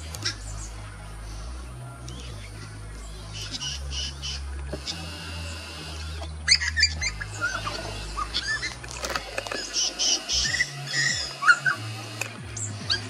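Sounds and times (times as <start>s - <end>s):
background music with bass: 0.0s - 13.0s
birds chirping: 0.0s - 13.0s.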